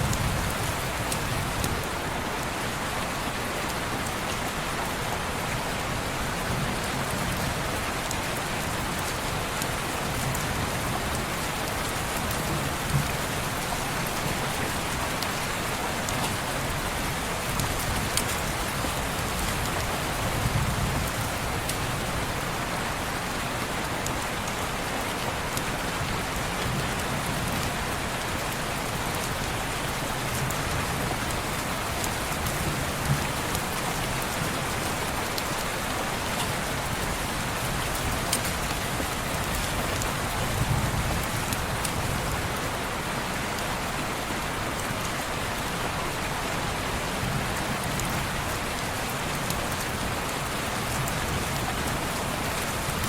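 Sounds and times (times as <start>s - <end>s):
heavy rain on a window: 0.0s - 53.0s.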